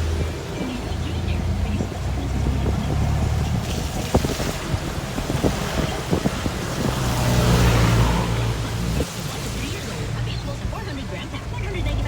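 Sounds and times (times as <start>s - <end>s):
car engine and tyre rumble: 0.0s - 12.0s
road hiss: 0.0s - 12.0s.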